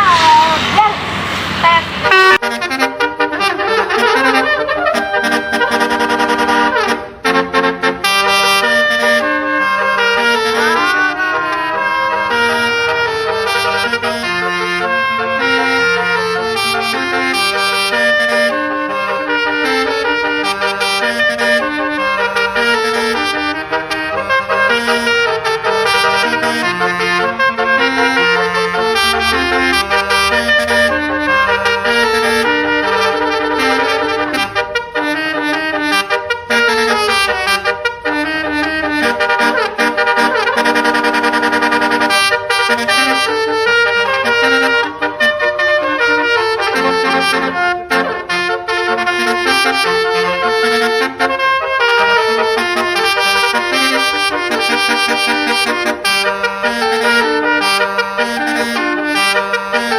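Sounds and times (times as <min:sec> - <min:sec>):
bus horn playing a melody: 0:00.0 - 0:59.9.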